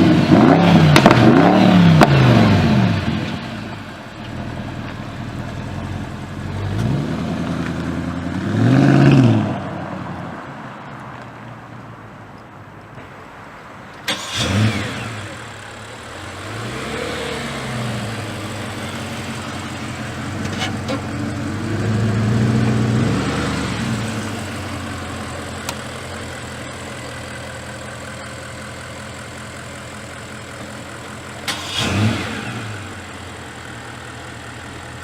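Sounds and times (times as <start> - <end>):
car engine revving and idling: 0.0 - 11.0, 13.9 - 35.0.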